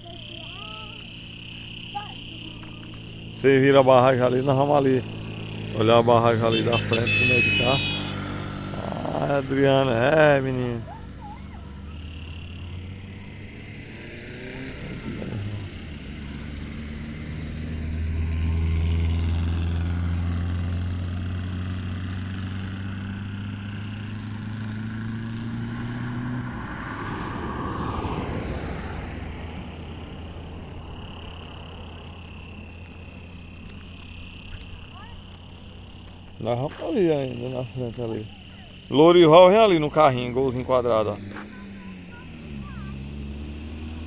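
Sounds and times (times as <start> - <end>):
car engine hum: 0.0 - 44.0.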